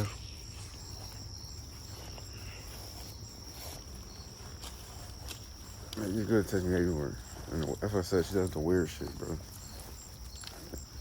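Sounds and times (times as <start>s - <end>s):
faint ticks and rustles: 0.0s - 11.0s
insects chirring: 0.0s - 11.0s.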